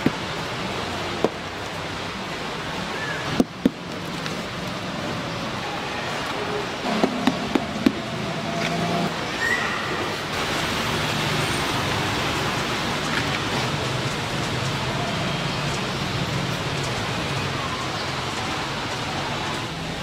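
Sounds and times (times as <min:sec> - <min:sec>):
rushing road traffic noise: 0:00.0 - 0:20.0.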